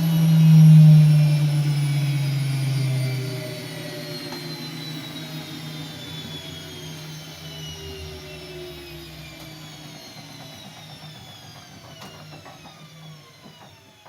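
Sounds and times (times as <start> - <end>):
washing machine spinning down: 0.0 - 14.0.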